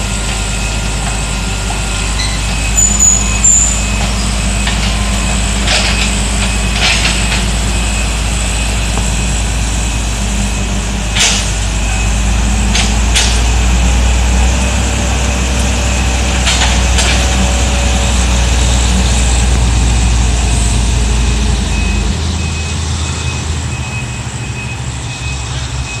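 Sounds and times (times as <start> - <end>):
excavator diesel engine running: 0.0 - 26.0
reversing alarm beeping: 0.0 - 26.0.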